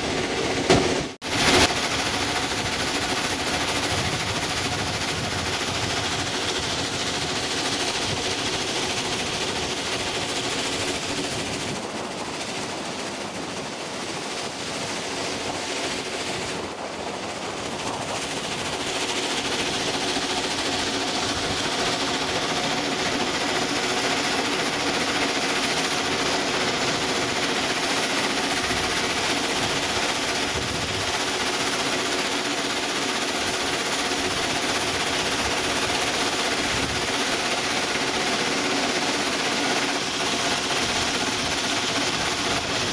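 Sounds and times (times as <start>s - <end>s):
locomotive rattle and rumble: 0.0s - 42.9s.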